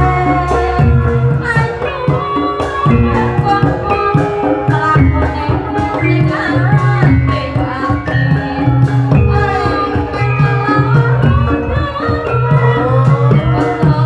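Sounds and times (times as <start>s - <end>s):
hand drums: 0.0s - 14.0s
person singing: 0.0s - 14.0s.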